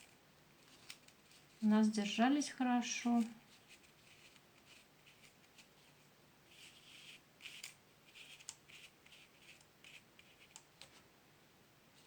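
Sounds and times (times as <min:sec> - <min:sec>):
paper crackling and scratching: 0:00.0 - 0:02.2, 0:02.8 - 0:11.0.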